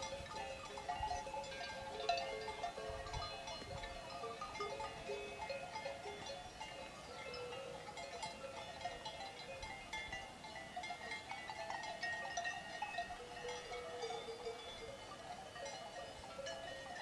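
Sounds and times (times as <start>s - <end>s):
cowbells clanking: 0.0s - 17.0s.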